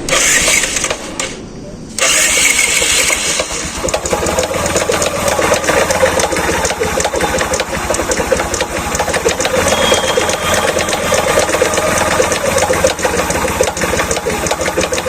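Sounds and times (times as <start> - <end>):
motorcycle engine rattling clatter: 2.0 - 15.0.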